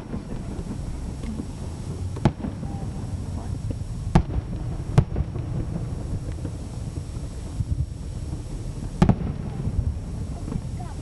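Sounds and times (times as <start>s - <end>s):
distant fireworks bangs: 0.0s - 11.0s
steady low rumble: 0.0s - 11.0s.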